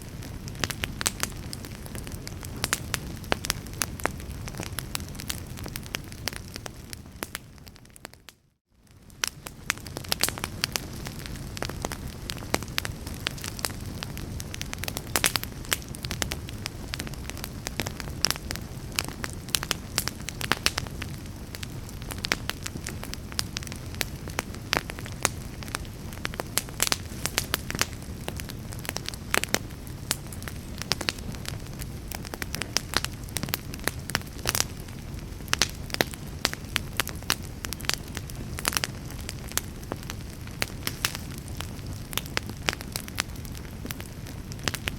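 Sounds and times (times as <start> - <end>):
low rumble of flame: 0.0 - 44.9
wood fire crackling and popping: 0.0 - 44.9.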